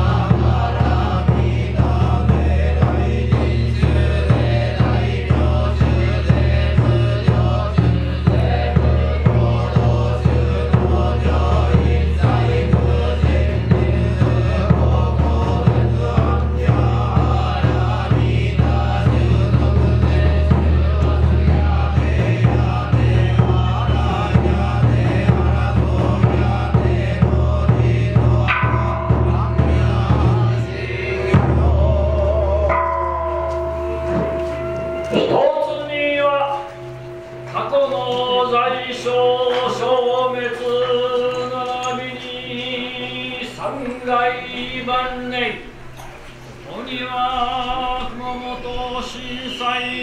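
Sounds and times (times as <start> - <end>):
chanting in unison: 0.0 - 45.8, 46.4 - 50.0
steady low hum: 0.0 - 50.0.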